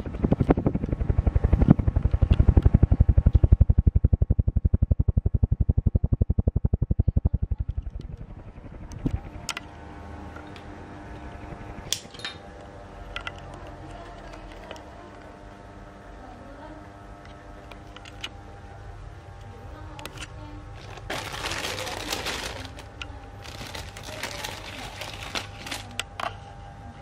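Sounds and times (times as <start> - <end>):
fan blade wash buffeting microphone: 0.0 - 15.4, 17.6 - 26.0
ceiling fan buzzing hum: 0.0 - 27.0.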